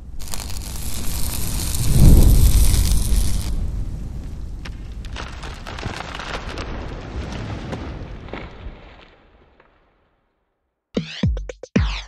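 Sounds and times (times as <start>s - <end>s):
rumbling crackling noise: 0.0s - 10.1s.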